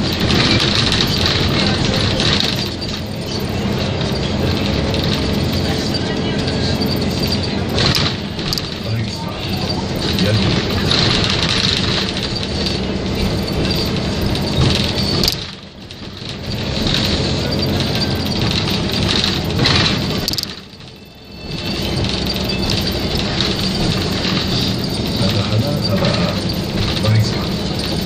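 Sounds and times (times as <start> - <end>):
bus engine and road noise: 0.0 - 28.0.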